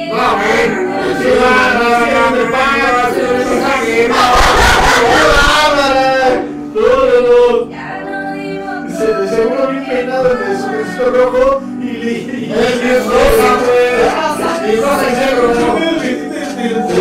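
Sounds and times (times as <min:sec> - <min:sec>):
men singing a song: 0:00.0 - 0:07.7, 0:08.8 - 0:17.0.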